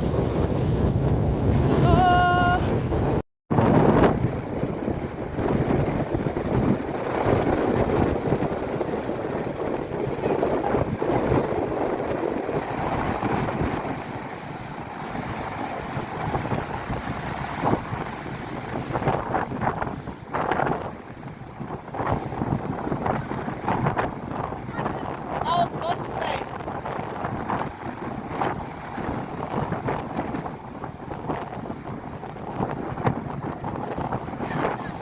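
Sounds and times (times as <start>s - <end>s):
ocean surf: 0.0s - 35.0s
wind buffeting microphone: 0.0s - 35.0s.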